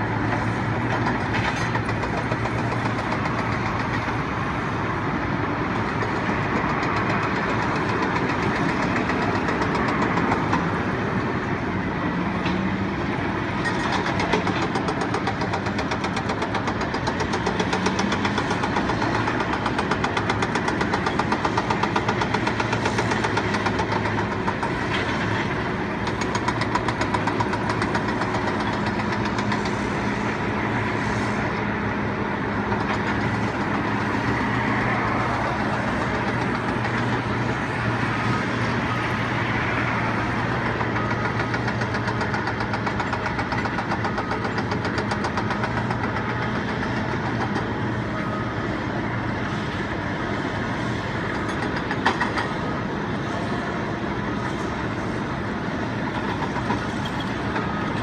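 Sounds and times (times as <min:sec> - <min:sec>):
large engine humming: 0:00.0 - 0:58.0.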